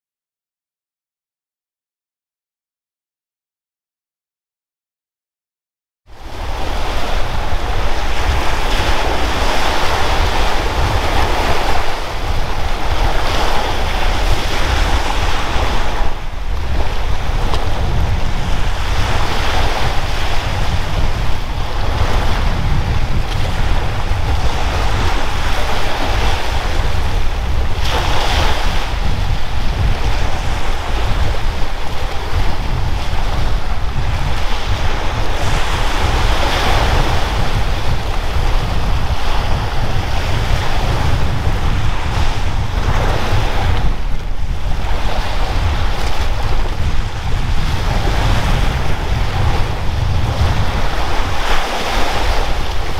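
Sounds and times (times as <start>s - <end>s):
surf washing onto a beach: 6.1s - 52.9s
wind buffeting microphone: 6.1s - 52.9s.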